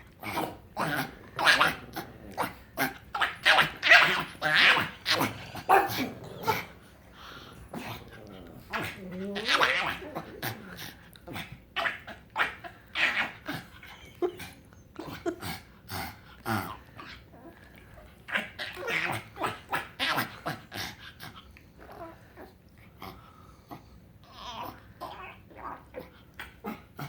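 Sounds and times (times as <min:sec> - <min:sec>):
dog grunting and crying: 0:00.0 - 0:27.0.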